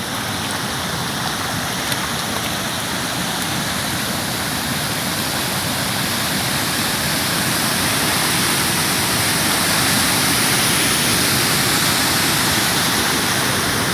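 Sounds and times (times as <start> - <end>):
rushing water: 0.0 - 13.9.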